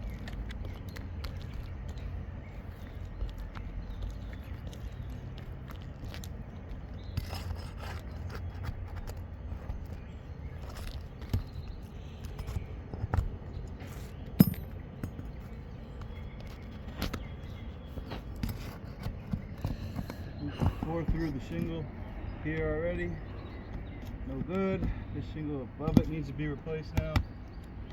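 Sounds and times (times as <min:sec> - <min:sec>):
hands and tools scraping shingles: 0:00.0 - 0:27.9.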